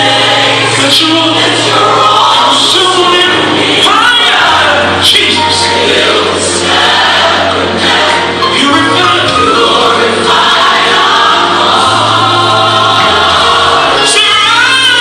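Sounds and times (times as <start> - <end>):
gospel choir singing with band: 0.0 - 15.0.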